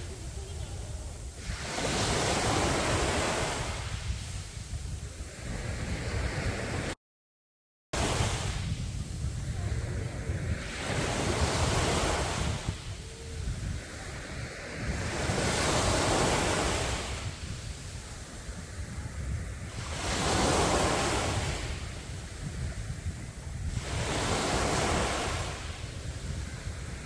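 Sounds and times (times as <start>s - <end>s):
sea waves breaking on beach: 0.0s - 7.0s, 8.0s - 27.0s
wind rumbling on microphone: 0.0s - 7.0s, 8.0s - 27.0s.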